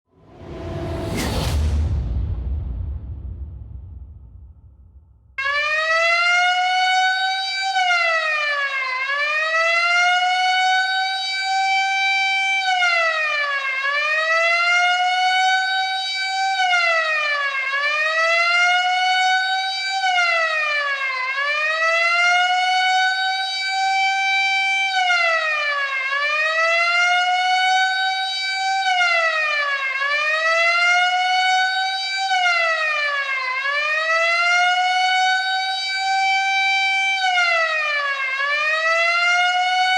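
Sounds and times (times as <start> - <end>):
alarm siren wailing: 5.4 - 39.9.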